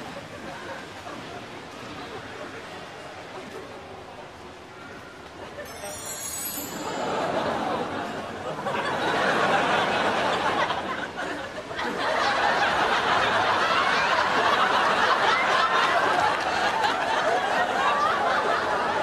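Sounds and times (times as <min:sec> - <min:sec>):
crowd chattering and laughing: 0:00.0 - 0:19.0.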